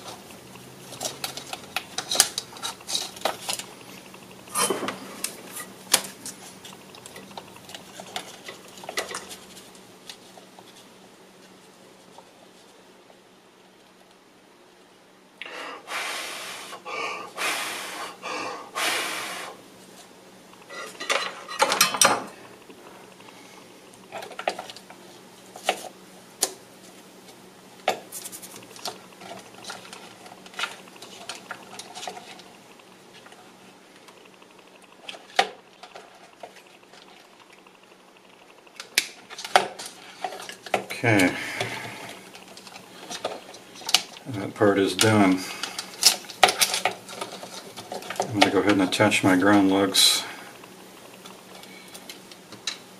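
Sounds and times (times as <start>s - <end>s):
rustling and scraping of parts: 0.0s - 14.2s, 19.0s - 52.9s.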